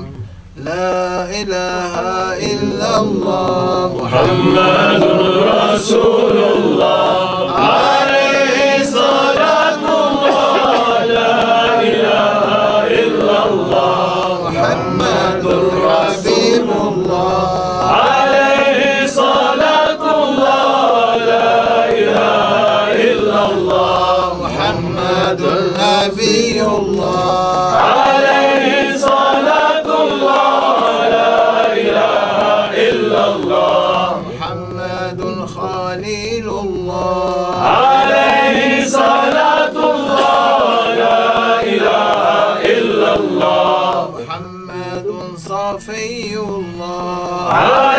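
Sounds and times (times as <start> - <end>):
men chanting together: 0.0 - 47.9.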